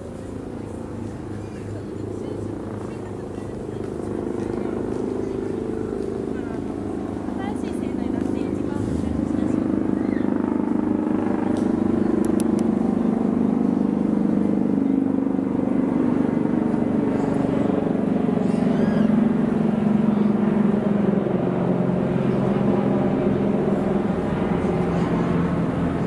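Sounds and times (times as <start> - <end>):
street noise: 0.0 - 26.0
vehicle engine rumbling: 0.0 - 26.0.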